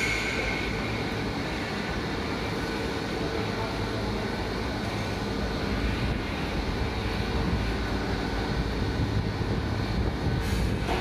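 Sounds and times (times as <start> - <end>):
constant machine tones: 0.0 - 11.0
furnace machinery hum: 0.0 - 11.0.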